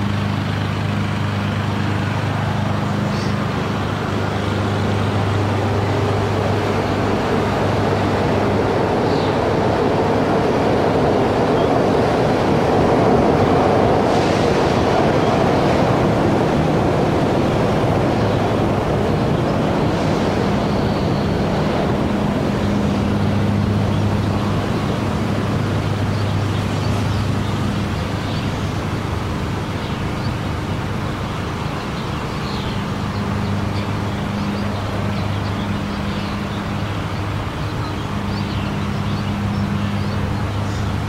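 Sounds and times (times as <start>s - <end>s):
monorail car running on rail: 0.0s - 41.0s.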